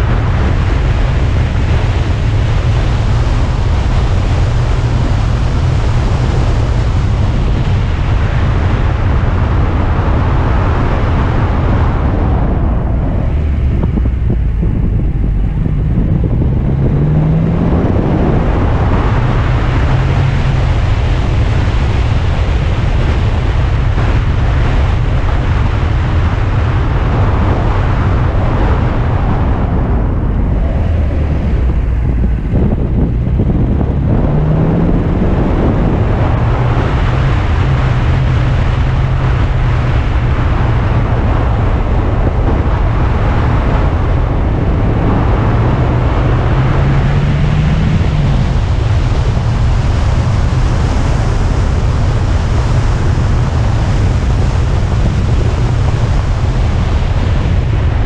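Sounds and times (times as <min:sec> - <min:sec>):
car engine rumble: 0:00.0 - 0:58.0
wind buffeting microphone: 0:00.0 - 0:58.0.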